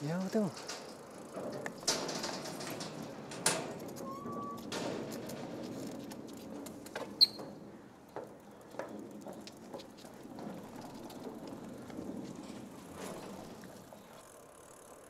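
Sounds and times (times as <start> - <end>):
bicycle rattling and clicking: 0.0 - 15.0.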